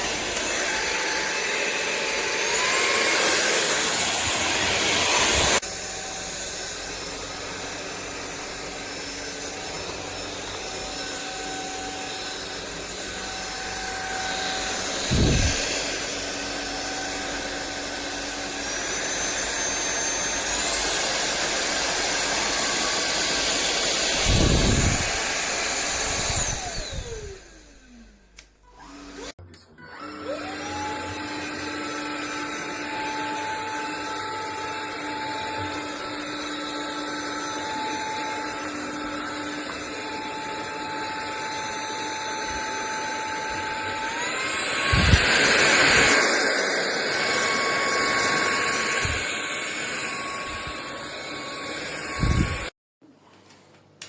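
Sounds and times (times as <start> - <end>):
vacuum motor whining: 0.0 - 52.7.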